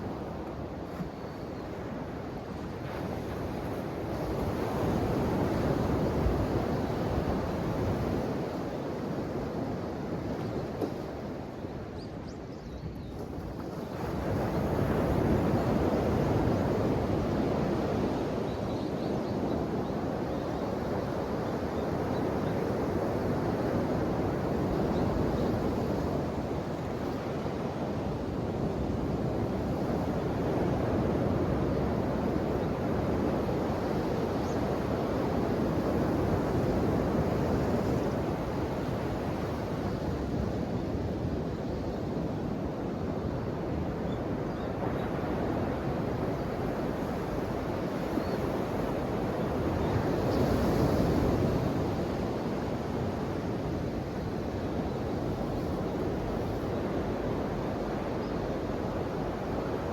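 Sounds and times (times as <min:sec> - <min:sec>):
ocean waves washing ashore: 0:00.0 - 0:12.0, 0:13.2 - 0:59.9.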